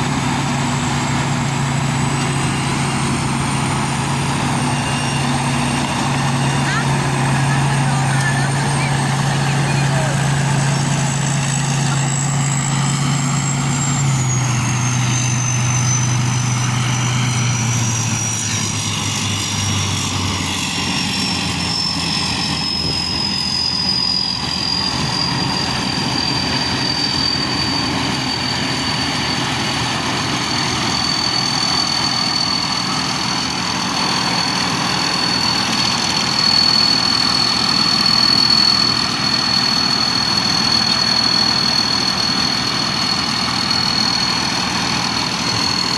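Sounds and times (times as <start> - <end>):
high machinery whine: 0.0 - 45.9
low engine hum: 0.0 - 45.9.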